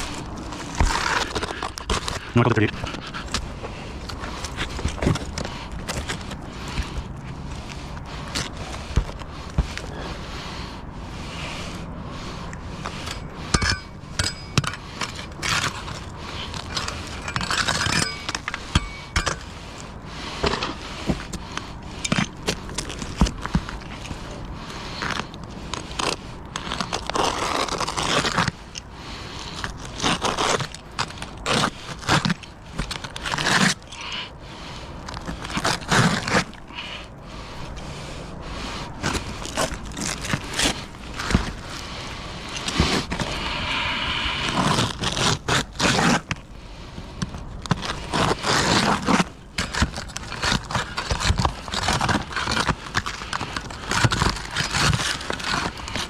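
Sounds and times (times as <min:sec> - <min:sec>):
scraping and rustling on roof: 0:00.0 - 0:56.0.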